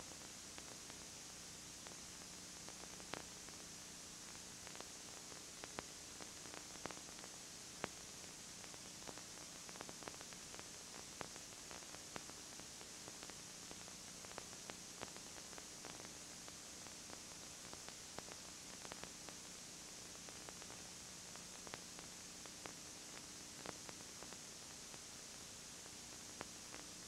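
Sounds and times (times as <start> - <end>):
tape hiss: 0.0 - 27.0.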